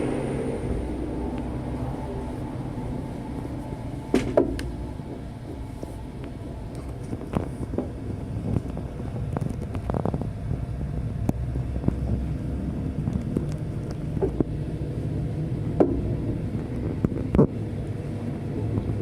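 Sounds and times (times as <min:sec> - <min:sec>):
train carriage rumbling: 0:00.0 - 0:19.0.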